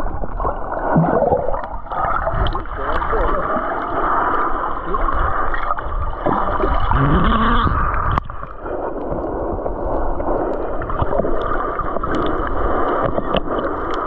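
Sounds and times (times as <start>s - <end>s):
water sloshing underwater: 0.0s - 14.0s.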